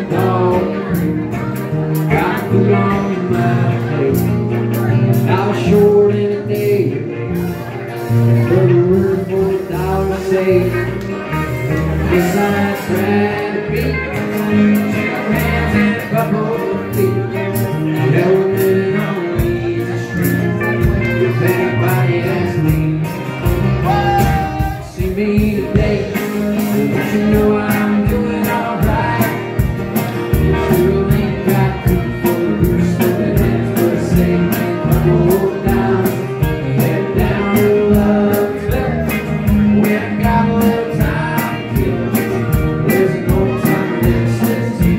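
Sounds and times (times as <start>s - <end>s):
acoustic guitar: 0.0s - 44.9s
man singing: 0.0s - 44.9s
drum kit beat: 6.6s - 44.9s.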